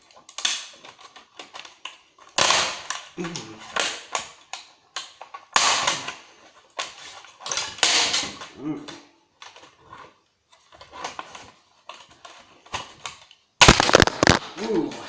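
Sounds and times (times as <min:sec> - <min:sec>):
hard plastic cracking and snapping: 0:00.0 - 0:14.5.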